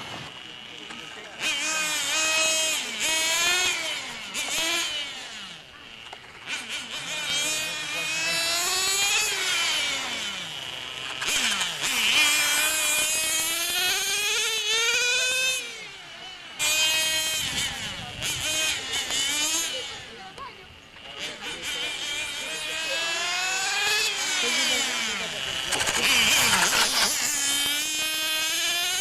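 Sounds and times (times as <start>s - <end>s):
model motorcycle motors whining: 0.0s - 29.0s.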